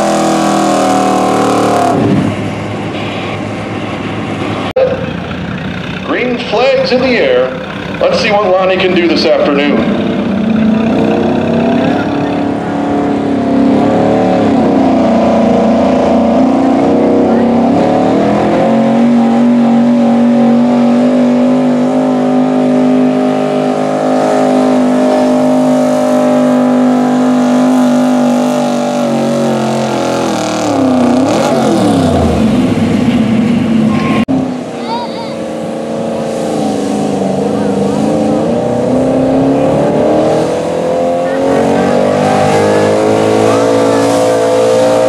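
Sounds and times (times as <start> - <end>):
truck engine at high revs: 0.0 - 45.0.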